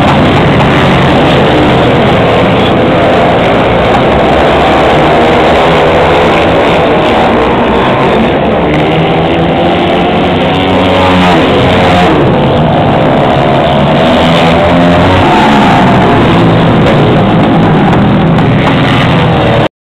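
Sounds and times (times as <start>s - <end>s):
racing motorcycle engines: 0.0s - 19.7s.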